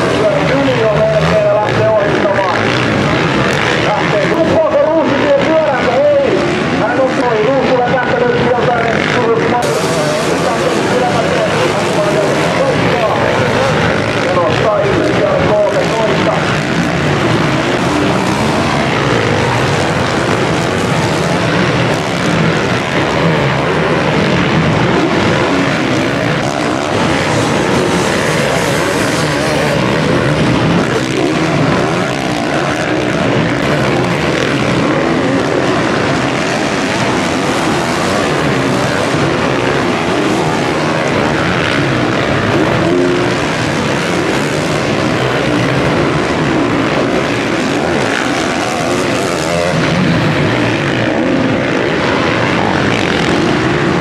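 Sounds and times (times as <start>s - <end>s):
motorcycle engines droning: 0.0s - 54.0s.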